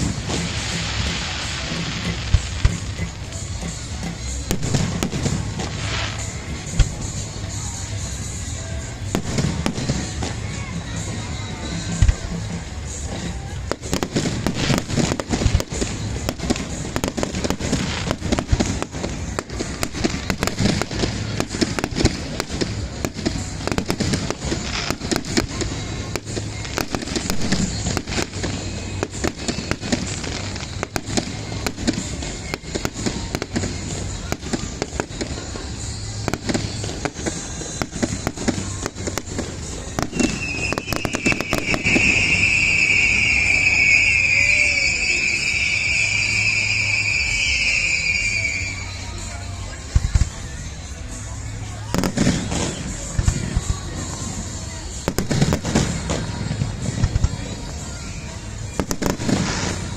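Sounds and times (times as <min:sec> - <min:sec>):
high steady whistling tone: 0:00.0 - 0:50.7
fireworks bangs and crackles: 0:00.0 - 0:59.9
music playing: 0:00.0 - 0:59.9.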